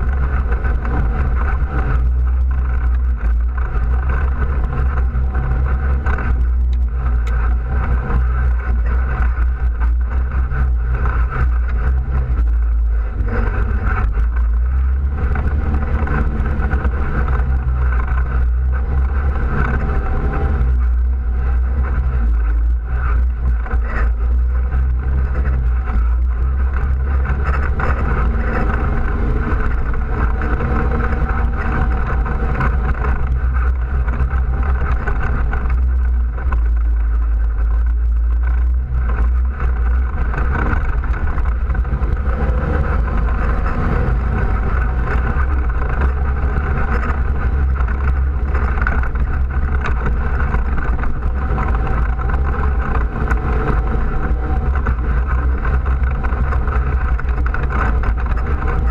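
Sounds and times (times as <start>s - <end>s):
quad bike engine droning: 0.0s - 58.9s.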